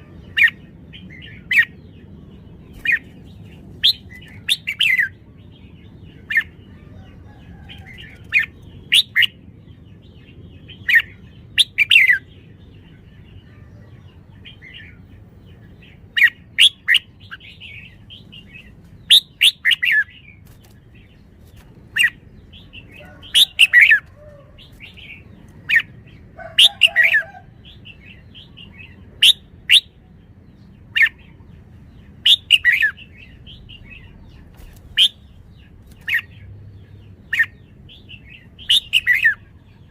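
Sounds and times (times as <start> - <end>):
low background hum: 0.0 - 39.9.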